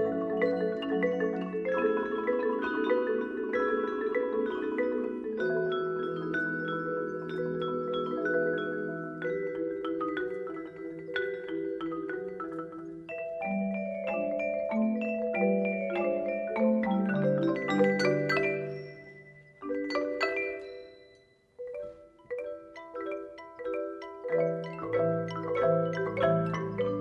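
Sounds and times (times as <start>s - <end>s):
marimbas and xylophones playing: 0.0s - 27.0s.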